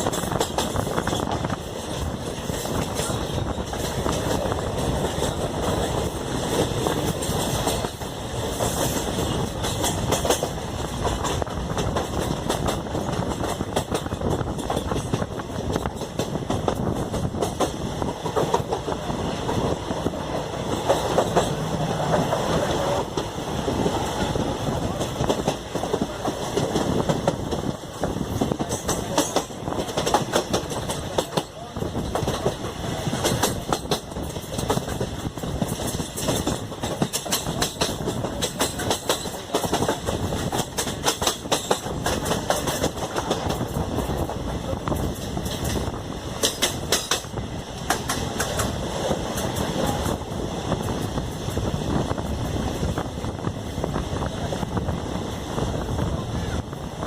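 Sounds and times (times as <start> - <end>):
wheels clacking over rail joints: 0.0 - 53.9
train rumbling: 0.0 - 57.0.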